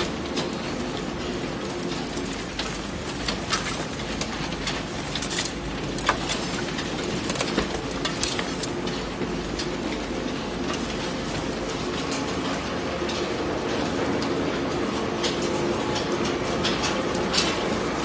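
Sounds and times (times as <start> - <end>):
recycling machinery humming: 0.0 - 18.0.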